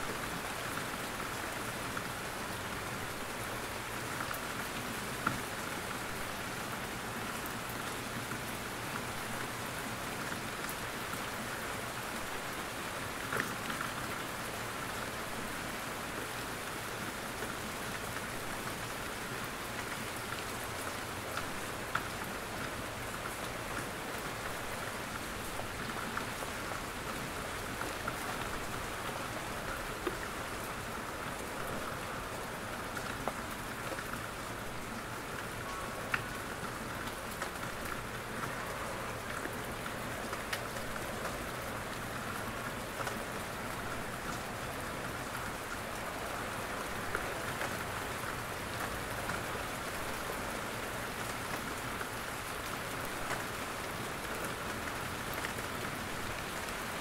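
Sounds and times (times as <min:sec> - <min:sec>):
steady rain in a forest: 0:00.0 - 0:57.0.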